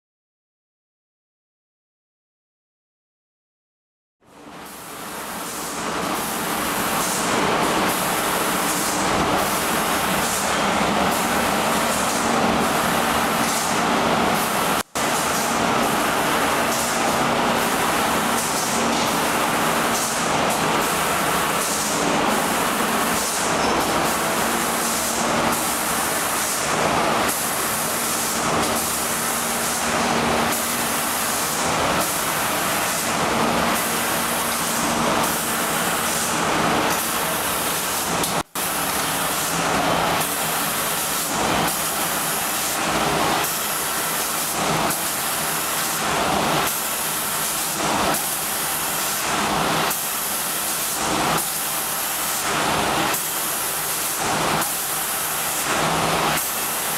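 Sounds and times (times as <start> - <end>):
air spray guns hissing: 4.7 - 56.9.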